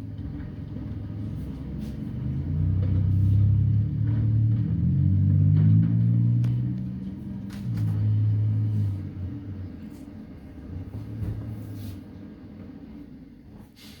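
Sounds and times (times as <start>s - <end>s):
garbage truck engine rumbling: 0.0s - 14.0s.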